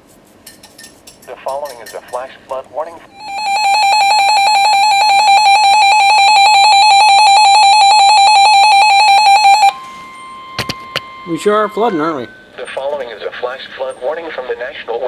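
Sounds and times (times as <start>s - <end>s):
steady warning tone: 1.2s - 15.0s
weather radio alarm beeping: 2.5s - 15.0s.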